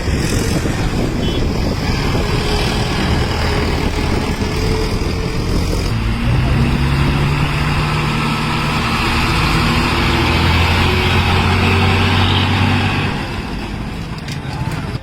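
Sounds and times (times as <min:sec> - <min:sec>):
heavy vehicle engine running: 0:00.0 - 0:15.0
road noise: 0:00.0 - 0:15.0.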